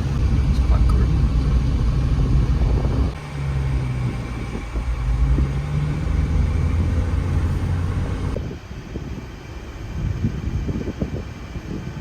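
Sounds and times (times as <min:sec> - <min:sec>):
vehicle engine low drone: 0:00.0 - 0:12.0.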